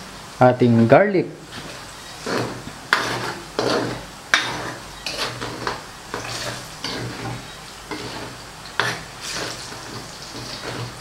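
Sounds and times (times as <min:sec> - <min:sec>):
garlic sizzling in oil: 0:01.4 - 0:11.0
ladle knocking and scraping wok: 0:01.5 - 0:11.0.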